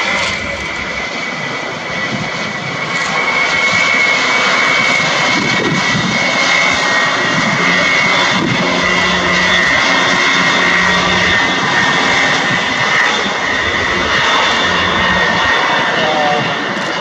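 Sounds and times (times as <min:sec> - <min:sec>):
high engine whine: 0:00.0 - 0:17.0
jet engines running: 0:00.0 - 0:17.0.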